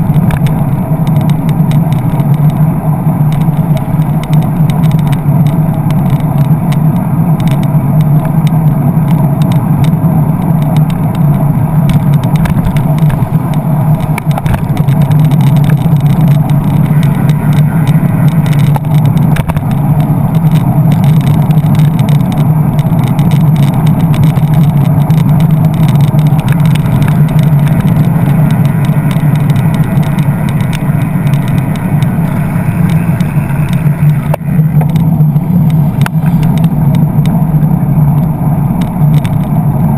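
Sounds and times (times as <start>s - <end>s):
engine running: 0.0s - 39.9s
traffic: 0.0s - 39.9s.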